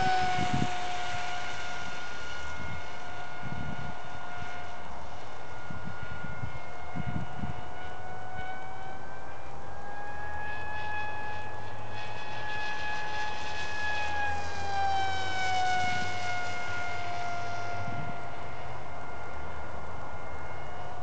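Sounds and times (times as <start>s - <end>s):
model glider motor whine: 0.0s - 21.0s.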